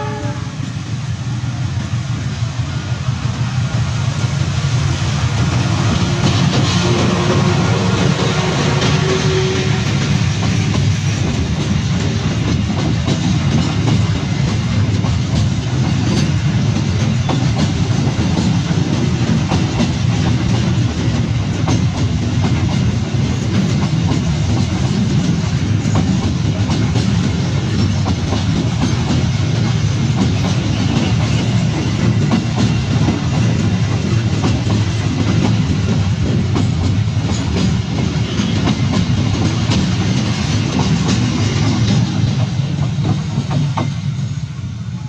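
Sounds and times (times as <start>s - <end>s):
wheels clickety-clack over rail joints: 0.0s - 44.6s
freight train wheels rumbling: 0.0s - 45.0s.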